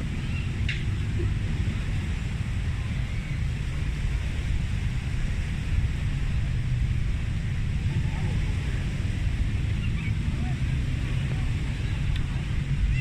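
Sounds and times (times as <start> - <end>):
sea surf hiss: 0.0 - 13.0
wind buffeting microphone: 0.0 - 13.0.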